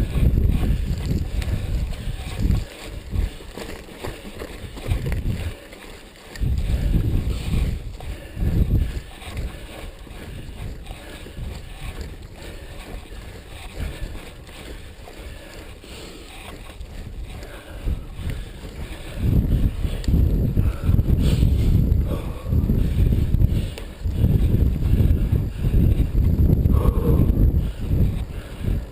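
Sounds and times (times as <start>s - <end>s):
bike rattle and tyre noise: 0.0s - 28.9s
wind buffeting microphone: 0.0s - 28.9s.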